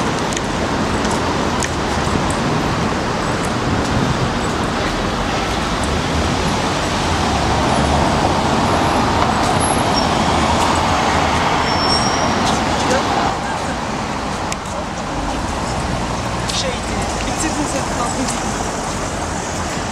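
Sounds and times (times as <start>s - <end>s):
cars driving over cobblestones: 0.0s - 19.9s.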